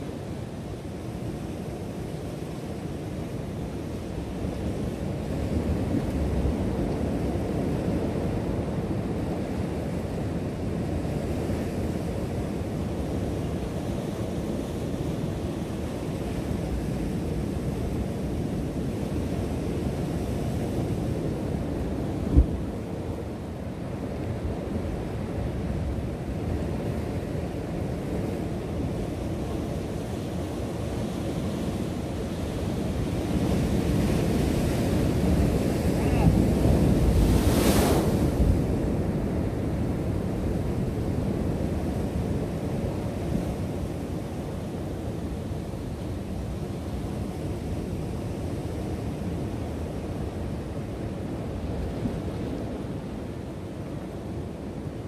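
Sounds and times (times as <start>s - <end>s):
ocean surf against rocks: 0.0s - 55.0s.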